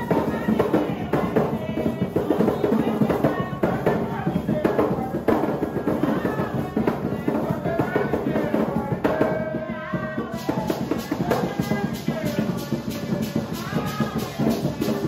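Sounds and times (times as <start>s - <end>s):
hand drums playing fast: 0.0s - 15.0s
person singing: 0.0s - 15.0s.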